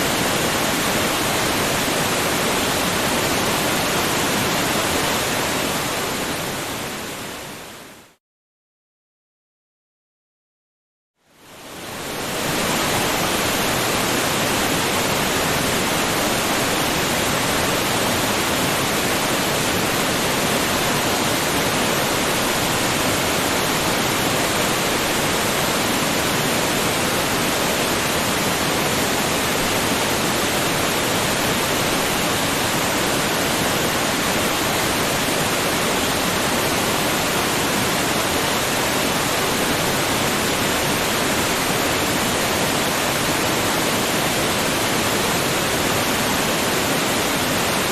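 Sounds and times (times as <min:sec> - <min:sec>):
waterfall rushing: 0:00.0 - 0:07.7, 0:11.5 - 0:47.9.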